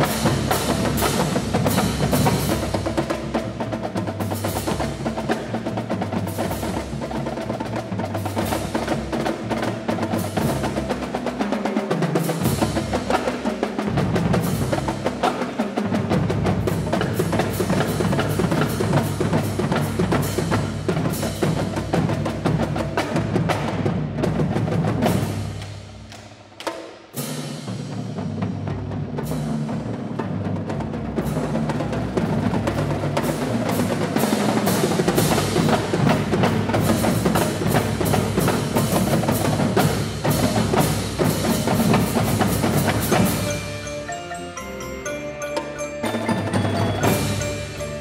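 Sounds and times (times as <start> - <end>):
music with driving percussion: 0.0 - 48.0.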